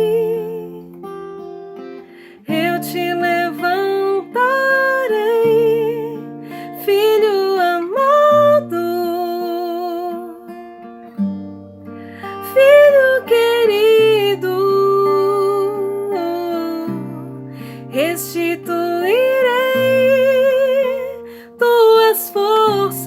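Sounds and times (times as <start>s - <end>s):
person singing with vibrato: 0.0s - 1.2s, 2.2s - 10.6s, 12.0s - 23.0s
acoustic guitar: 0.0s - 23.0s.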